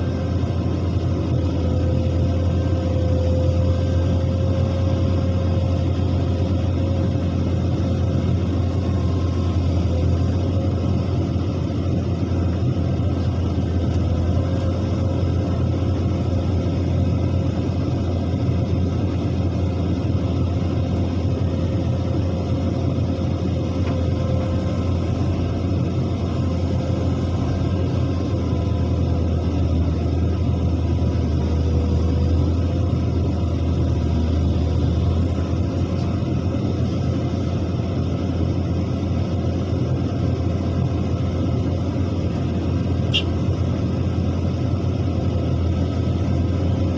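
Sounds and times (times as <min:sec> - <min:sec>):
diesel machinery rumbling: 0:00.0 - 0:46.9.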